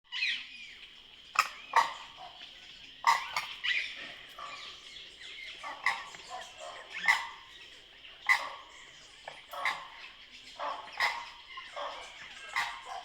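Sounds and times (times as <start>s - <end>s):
flock of birds chattering: 0.1s - 13.0s
loud sharp bird calls: 0.1s - 13.0s.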